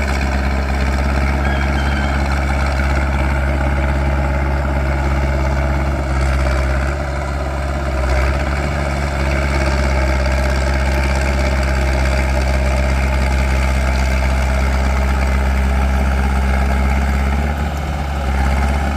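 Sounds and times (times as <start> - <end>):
bulldozer diesel engine drone: 0.0 - 18.9.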